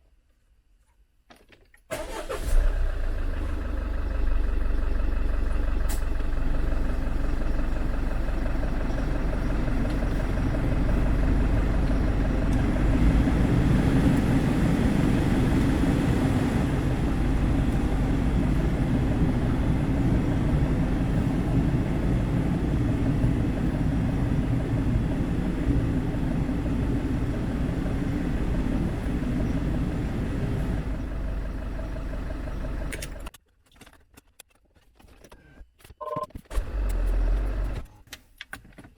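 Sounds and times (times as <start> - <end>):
diesel engine idling: 1.9 - 33.3.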